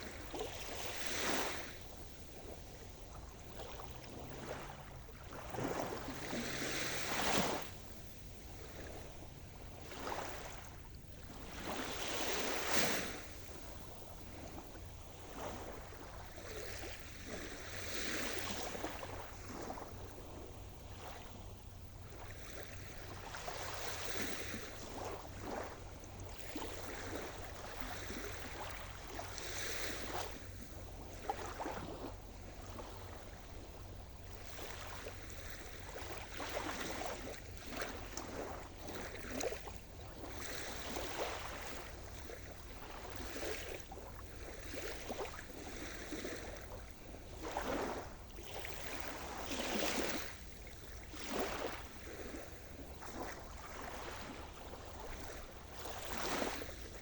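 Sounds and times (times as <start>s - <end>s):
low rumble of sea: 0.0s - 57.0s
small waves breaking: 0.0s - 57.0s.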